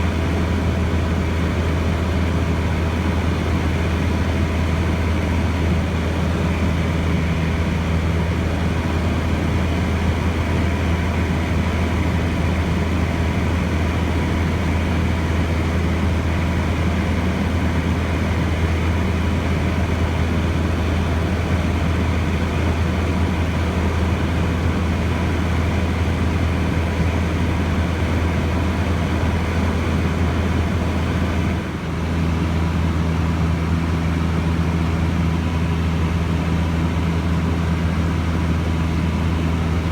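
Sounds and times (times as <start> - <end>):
small plane engine drone: 0.0 - 39.9.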